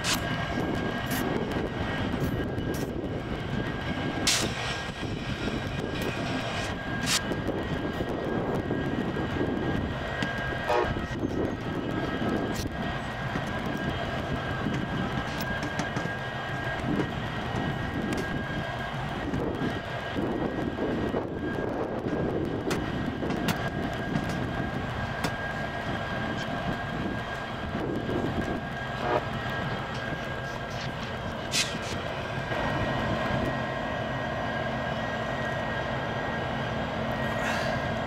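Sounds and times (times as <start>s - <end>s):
mechanical whirring drone: 0.0s - 38.0s.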